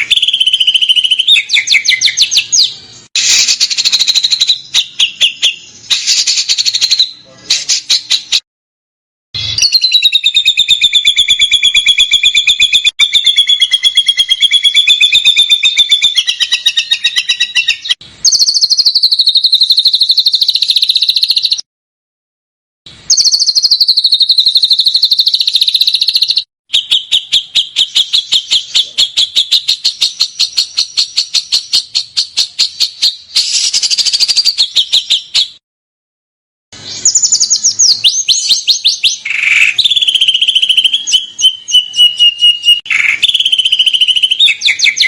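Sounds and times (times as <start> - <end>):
songbird trilling: 0.0 - 8.4, 9.4 - 21.6, 23.1 - 35.6, 36.9 - 45.0.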